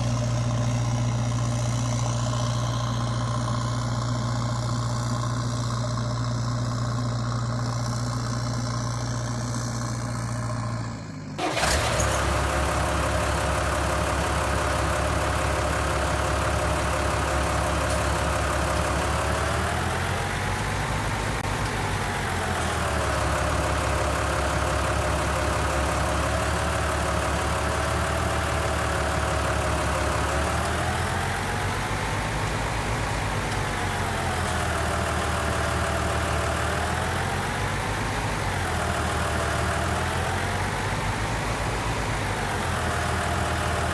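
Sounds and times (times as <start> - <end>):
engine idling and revving: 0.0 - 43.9.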